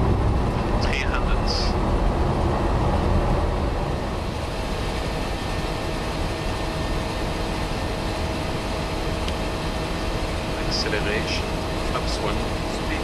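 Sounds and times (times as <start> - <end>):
aircraft engine noise: 0.0 - 13.0
faint steady hum: 0.0 - 13.0.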